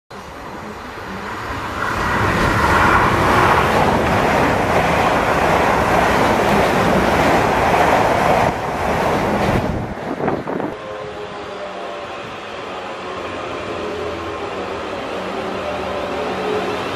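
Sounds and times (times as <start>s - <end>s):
train rushing past: 0.2s - 16.9s.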